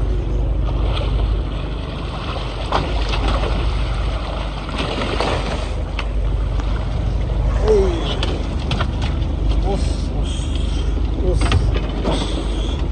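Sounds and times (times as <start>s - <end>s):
boat engine running: 0.0s - 12.9s
water splashing: 0.6s - 12.9s.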